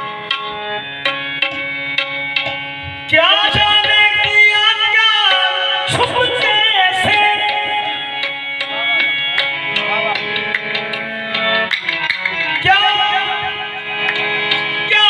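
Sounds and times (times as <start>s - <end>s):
tabla strokes: 0.0s - 5.3s, 5.9s - 15.0s
harmonium notes: 0.0s - 15.0s.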